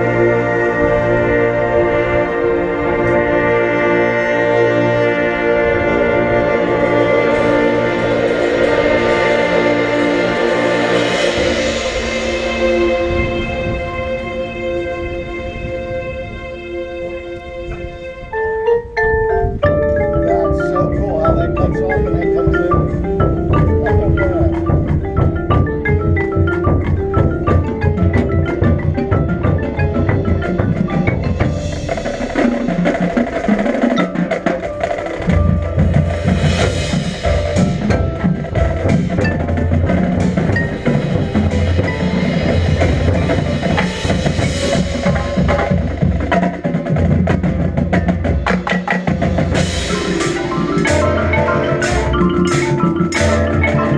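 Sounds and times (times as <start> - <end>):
cymbals and drums: 0.0 - 16.8, 19.8 - 53.9
marching band playing: 0.0 - 53.9
marimbas and xylophones: 0.0 - 53.9.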